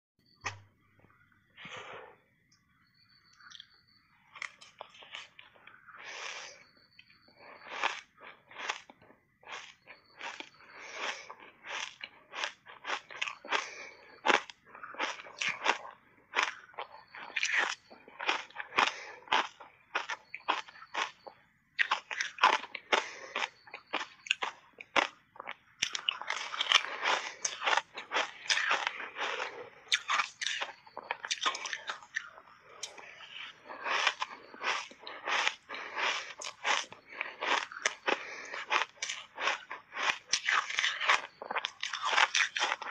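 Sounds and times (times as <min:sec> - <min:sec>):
crunching shaved ice: 0:04.4 - 0:42.9.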